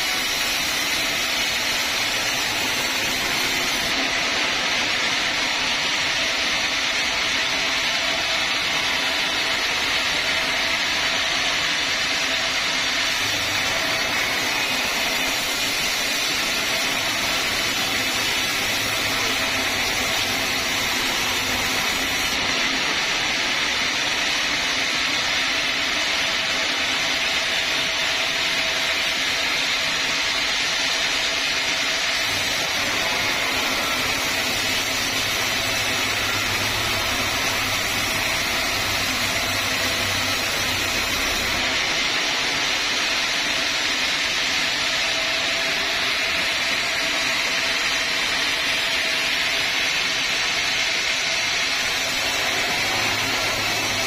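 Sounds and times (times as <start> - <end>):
band saw cutting a log: 0.0 - 24.8, 27.2 - 54.0.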